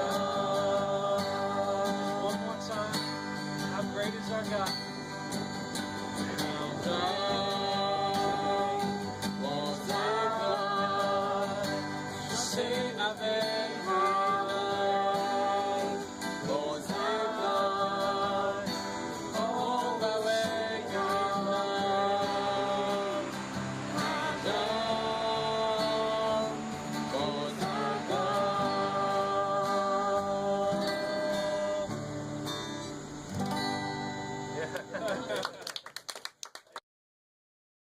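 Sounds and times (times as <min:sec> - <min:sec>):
gospel singing: 0:00.0 - 0:04.6, 0:05.4 - 0:33.1
guitar accompaniment: 0:00.0 - 0:35.8.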